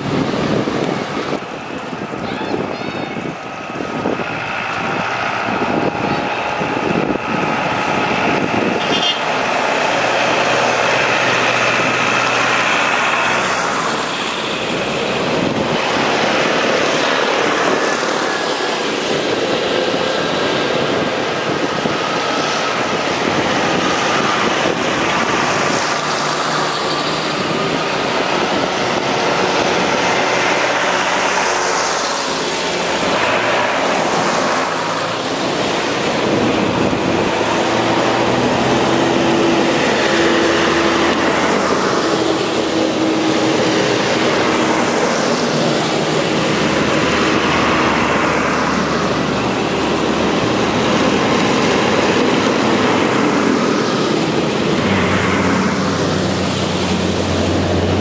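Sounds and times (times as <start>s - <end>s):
tractor engines driving past: 0.0s - 58.0s.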